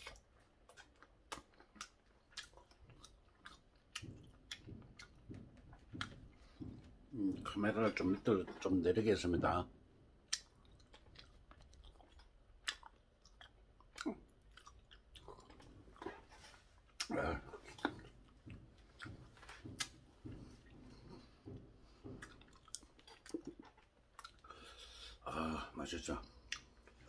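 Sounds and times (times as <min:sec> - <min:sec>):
crunchy chewing: 0:00.0 - 0:08.8, 0:10.3 - 0:24.9.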